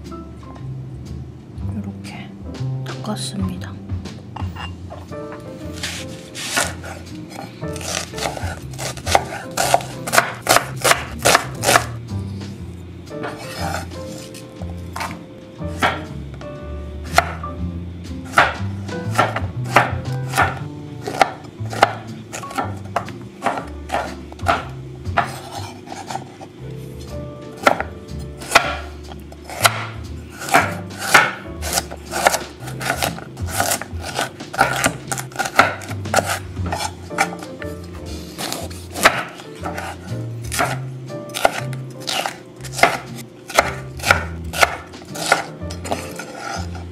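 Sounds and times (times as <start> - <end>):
knife chopping on wooden board: 5.7 - 12.0, 13.2 - 16.1, 17.1 - 17.4, 18.3 - 46.9.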